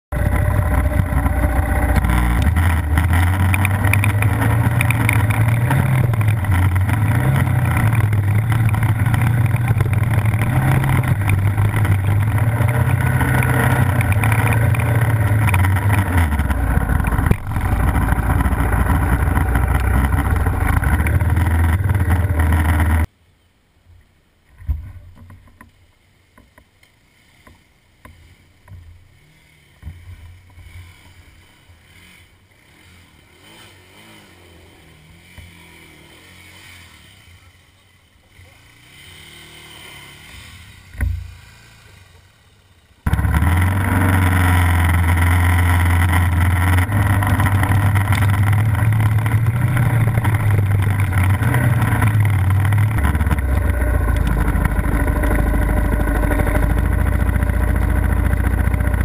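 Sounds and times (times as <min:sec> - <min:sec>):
vehicle engine running: 0:00.0 - 0:23.1, 0:28.2 - 0:59.0.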